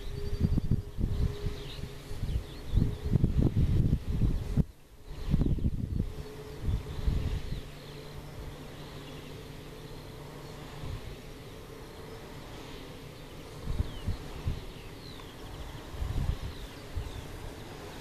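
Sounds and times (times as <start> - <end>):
lower hum: 0.0 - 18.0
wind rumbling on microphone: 0.0 - 18.0
wind turbine hum: 0.0 - 18.0.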